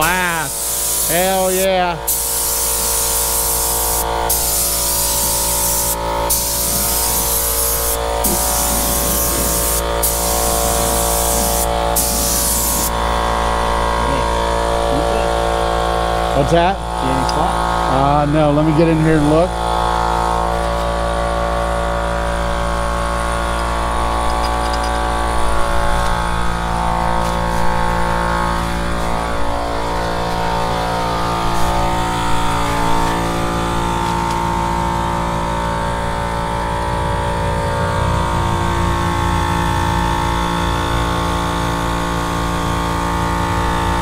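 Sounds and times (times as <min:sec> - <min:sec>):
air compressor running: 0:00.0 - 0:44.0.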